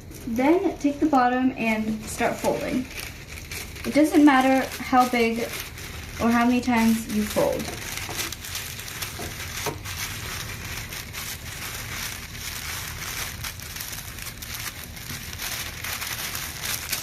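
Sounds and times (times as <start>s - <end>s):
tissue paper rustling: 0.0s - 17.0s.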